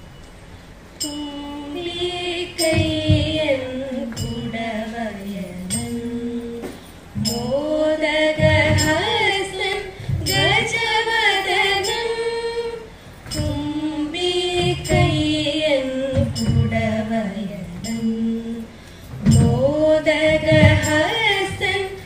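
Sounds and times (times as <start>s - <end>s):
sharp beats: 1.0s - 22.0s
women singing through a pa: 1.0s - 22.0s.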